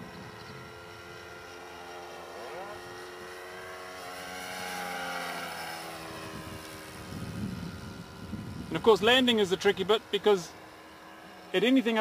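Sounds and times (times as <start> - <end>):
model aircraft engine flying past: 0.0 - 12.0.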